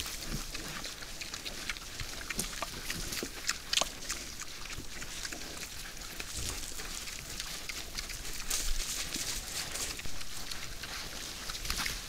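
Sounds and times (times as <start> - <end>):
wild boars chewing and rooting: 0.0 - 12.0.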